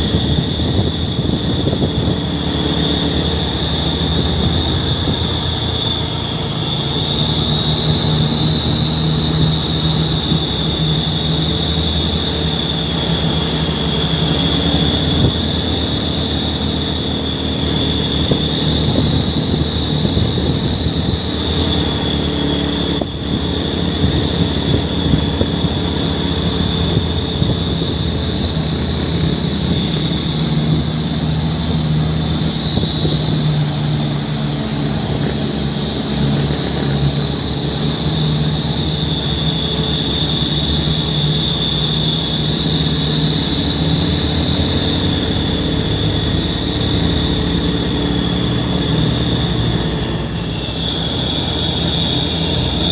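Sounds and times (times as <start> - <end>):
heavy truck engine running: 0.0 - 52.9
high-pitched whine: 0.0 - 52.9.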